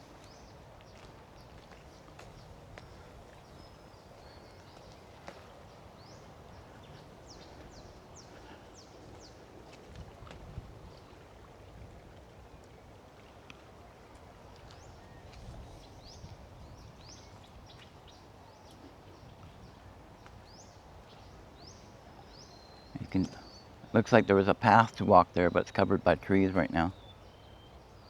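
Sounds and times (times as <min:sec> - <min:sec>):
birds chirping: 0:00.0 - 0:09.5, 0:14.1 - 0:28.0.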